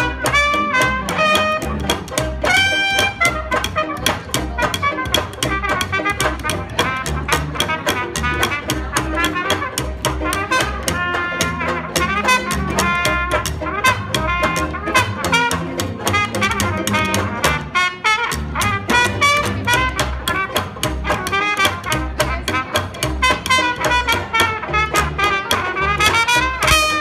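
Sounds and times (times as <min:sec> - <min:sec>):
banjo and guitar strumming: 0:00.0 - 0:27.0
saxophone: 0:00.0 - 0:27.0
trumpet: 0:00.0 - 0:27.0
upright bass walking: 0:00.0 - 0:27.0.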